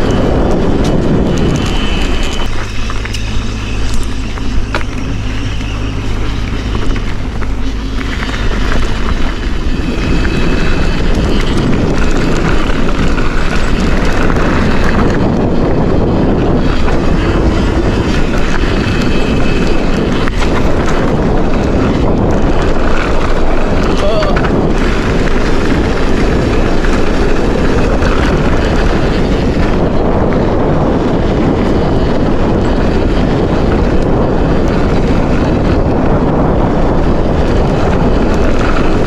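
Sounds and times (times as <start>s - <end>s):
bike tyres rumbling on dirt: 0.0s - 39.0s
wind buffeting microphone: 0.0s - 39.0s.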